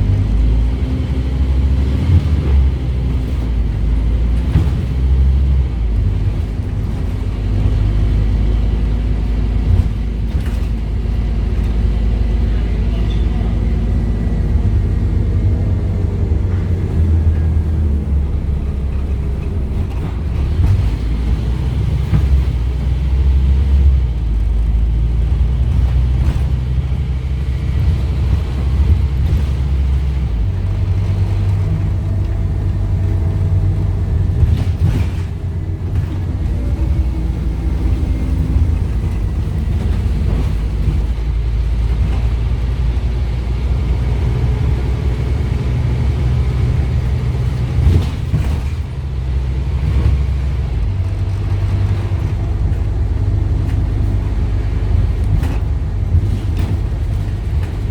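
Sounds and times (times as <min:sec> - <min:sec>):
bus diesel engine rumble: 0:00.0 - 0:57.9.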